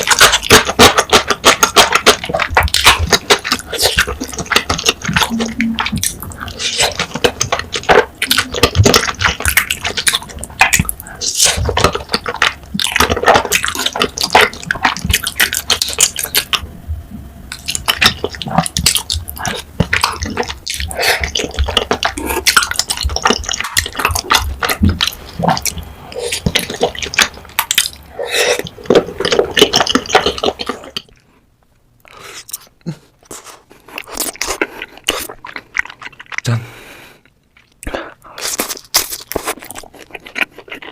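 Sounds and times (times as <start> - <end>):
wet sticky chewing and smacking: 0.0 - 16.7, 17.5 - 31.2, 32.4 - 36.6, 37.2 - 40.9.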